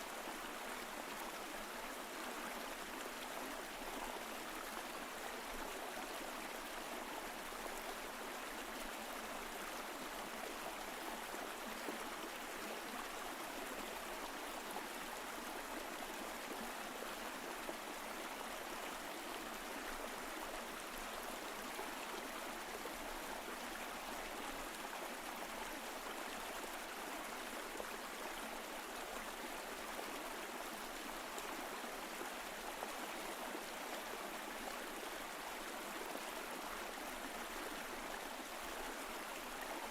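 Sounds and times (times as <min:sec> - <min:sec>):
stream flowing over rocks: 0:00.1 - 0:39.9.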